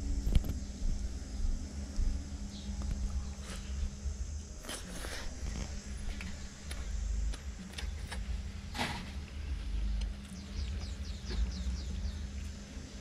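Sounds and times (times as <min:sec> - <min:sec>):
low rumble on microphone: 0:00.0 - 0:13.0.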